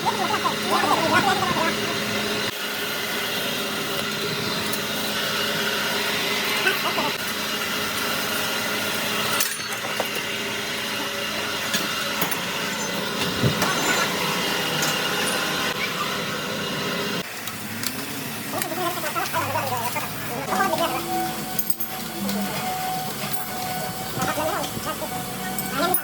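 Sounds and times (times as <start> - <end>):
steady workshop hum: 0.0 - 26.0.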